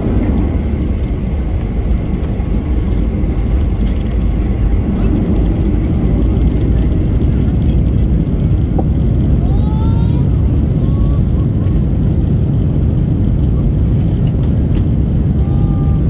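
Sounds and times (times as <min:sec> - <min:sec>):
jet engine cabin roar: 0:00.0 - 0:16.0.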